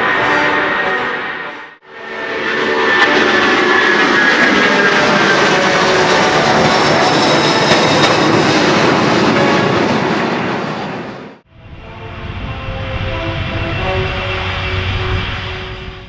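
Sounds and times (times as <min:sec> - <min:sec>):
aircraft engines roaring: 0:00.0 - 0:16.0.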